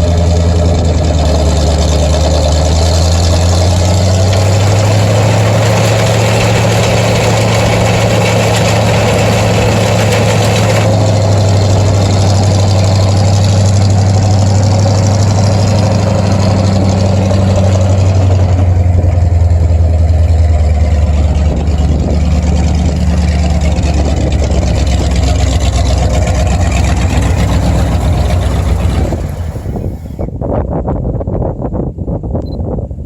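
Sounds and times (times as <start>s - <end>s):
truck engine idling: 0.0s - 30.4s.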